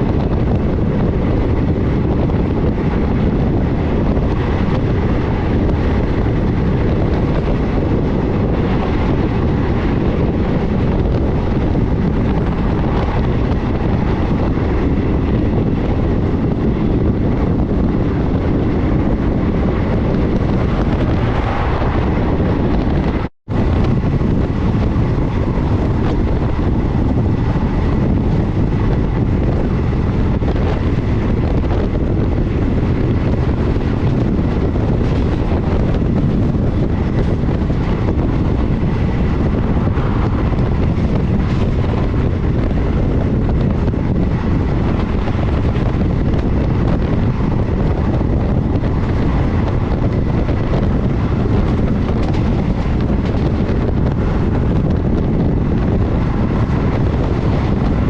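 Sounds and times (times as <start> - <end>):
train rumbling: 0.0 - 58.0
wind buffeting the microphone: 0.0 - 58.0.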